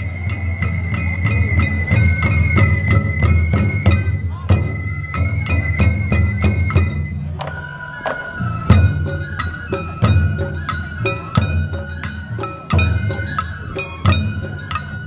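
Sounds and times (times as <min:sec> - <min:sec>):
drum beats: 0:00.0 - 0:15.0
high flute melody: 0:00.0 - 0:15.0.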